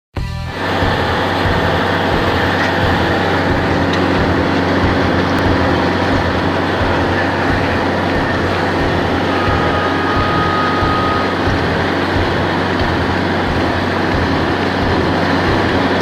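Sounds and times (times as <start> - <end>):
auger engine running: 0.2 - 16.0.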